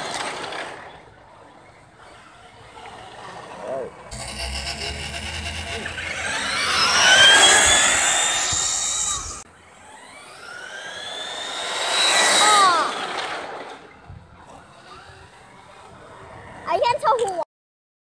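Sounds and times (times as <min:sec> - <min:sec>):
rc trucks whining past: 0:00.0 - 0:17.1.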